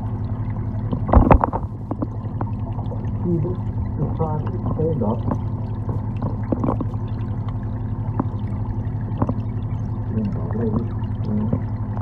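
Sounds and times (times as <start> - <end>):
low underwater hum: 0.0 - 12.0
water noise: 0.0 - 12.0.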